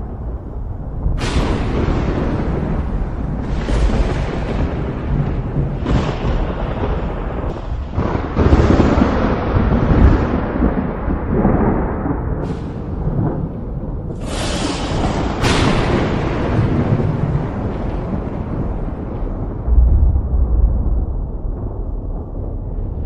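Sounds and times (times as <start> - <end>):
thunder cracks: 0.0 - 23.0
thunder rumbling: 0.0 - 23.0.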